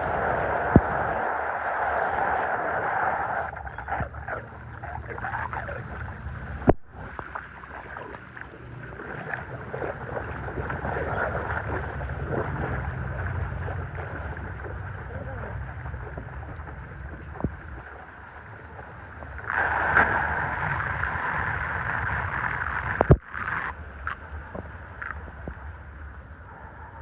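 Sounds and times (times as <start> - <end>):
water rushing and splashing: 0.0 - 25.6.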